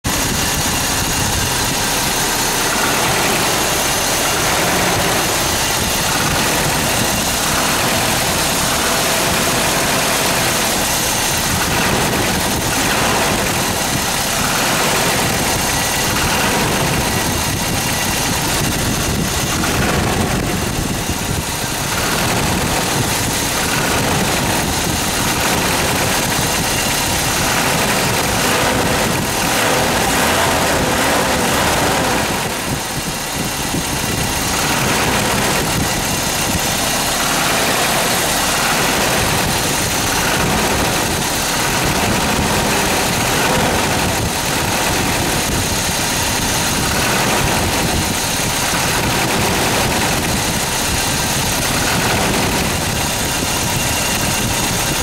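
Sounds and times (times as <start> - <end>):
engine idling with rattle: 0.0 - 55.0.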